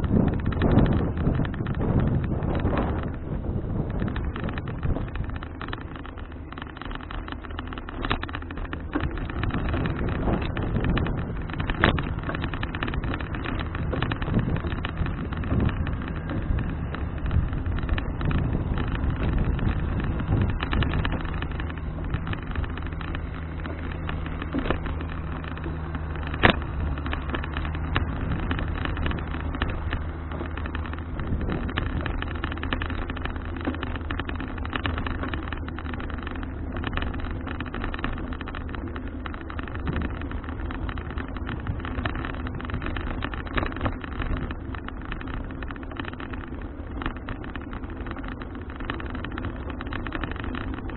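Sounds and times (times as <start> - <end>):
continuous rushing noise: 0.0 - 50.9
motor engine humming: 0.0 - 50.9.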